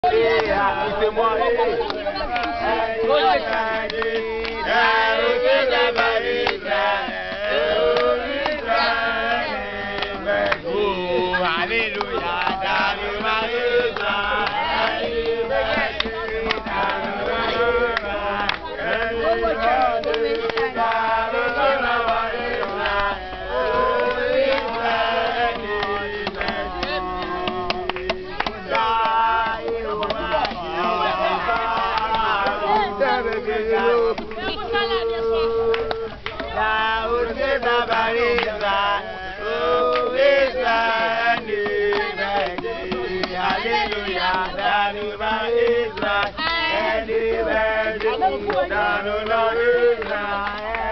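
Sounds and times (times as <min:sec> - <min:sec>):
group singing and chanting: 0:00.0 - 0:50.9.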